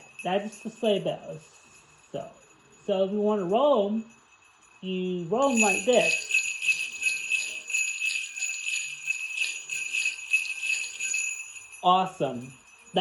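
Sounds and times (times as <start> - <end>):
sleigh bells jingling: 0.0 - 13.0.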